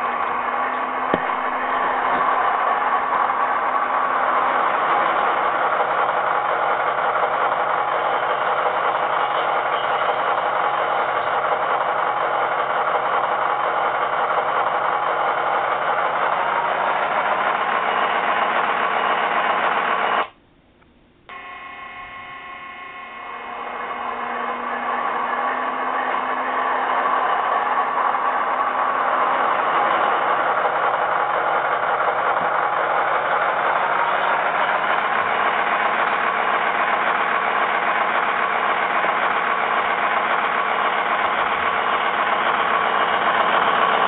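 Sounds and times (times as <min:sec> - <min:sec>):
model locomotive diesel engine sound: 0:00.0 - 0:44.0.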